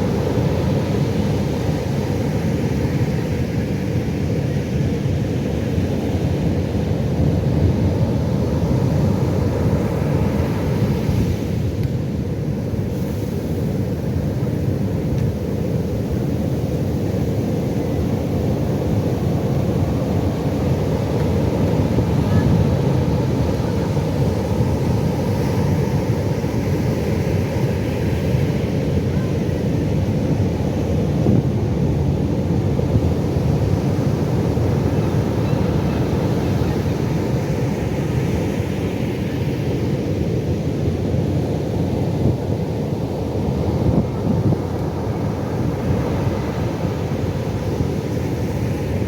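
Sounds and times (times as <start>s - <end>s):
waves rumbling: 0.0s - 49.0s.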